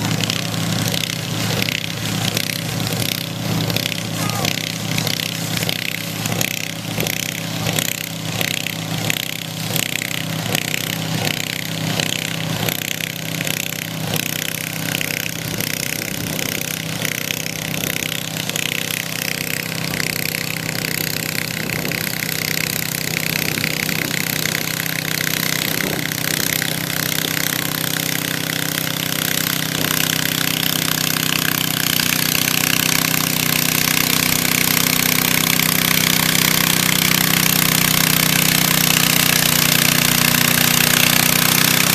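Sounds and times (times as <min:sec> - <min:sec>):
tractor engine running hard: 0:00.0 - 0:41.9.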